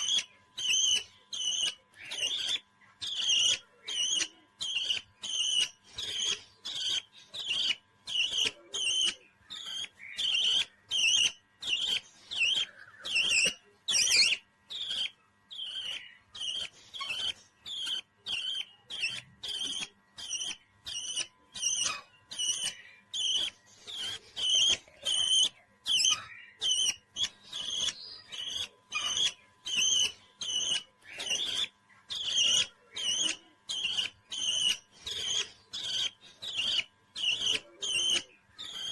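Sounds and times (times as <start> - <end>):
parrot chirping: 0.0 - 38.9.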